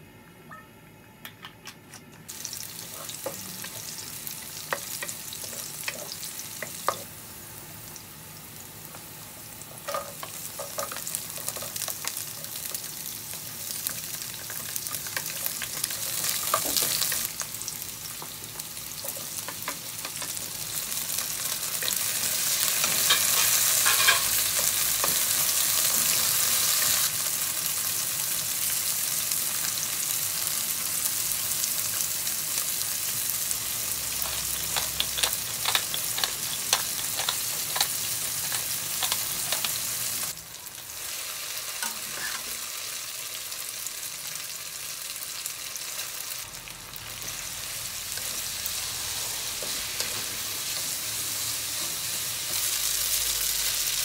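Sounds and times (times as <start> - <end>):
oil sizzling in a wok: 2.3 - 54.0.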